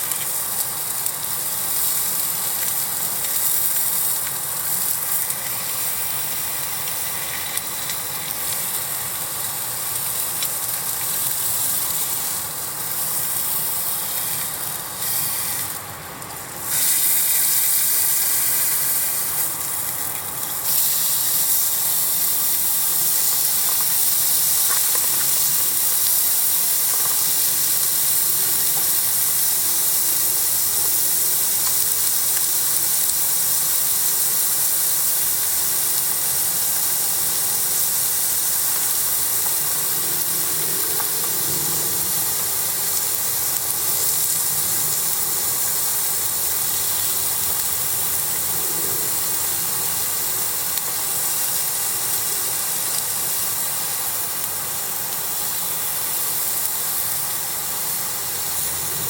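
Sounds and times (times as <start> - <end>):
food sizzling on hot plate: 0.0 - 59.0.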